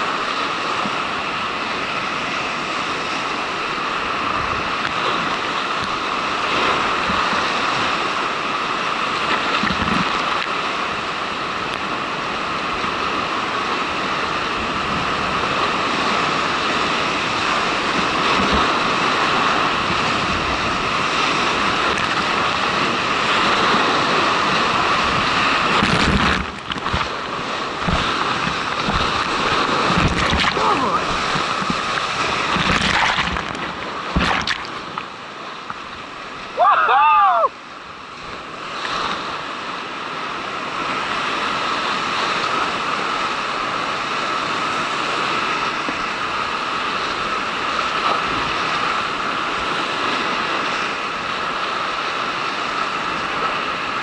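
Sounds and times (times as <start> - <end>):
rushing whitewater roar: 0.0 - 54.0.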